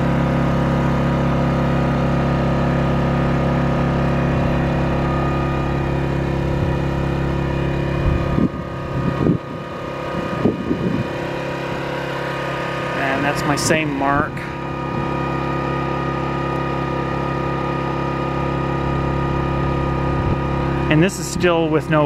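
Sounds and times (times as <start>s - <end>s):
inverter generator running: 0.0s - 22.0s.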